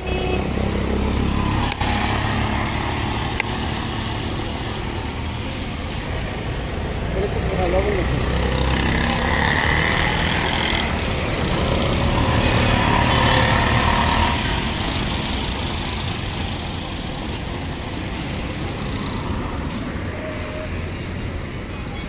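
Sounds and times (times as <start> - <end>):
vehicle engines passing: 0.0 - 22.0.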